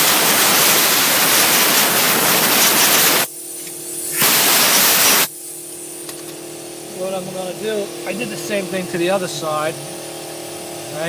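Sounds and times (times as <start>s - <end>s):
aerosol spray hissing: 0.0s - 10.3s.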